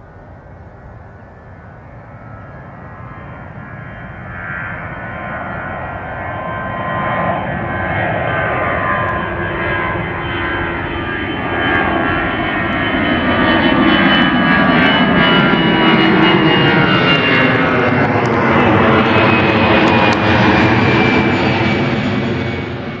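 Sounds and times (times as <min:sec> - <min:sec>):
high fan whine: 0:00.0 - 0:23.0
jet engines at climb power: 0:00.0 - 0:23.0.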